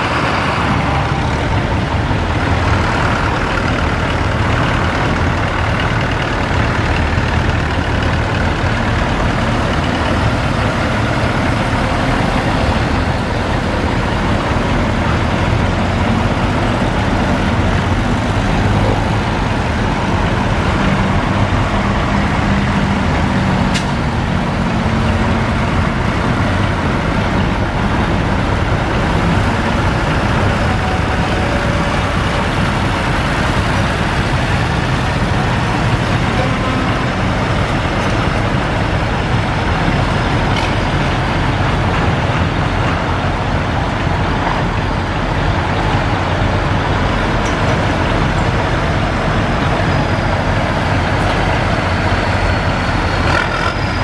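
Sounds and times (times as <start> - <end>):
diesel tractor engines passing: 0.0 - 54.0.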